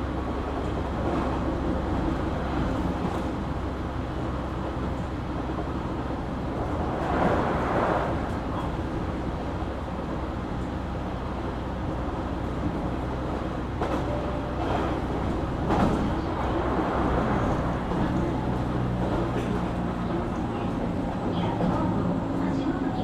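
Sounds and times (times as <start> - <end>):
electric train rumbling: 0.0 - 23.0
rail noise: 0.0 - 23.0.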